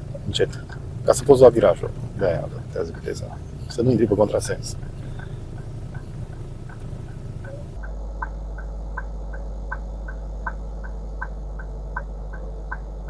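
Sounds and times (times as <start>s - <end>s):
engine and road hum: 0.0s - 13.0s
turn signal relay ticking: 0.0s - 13.0s.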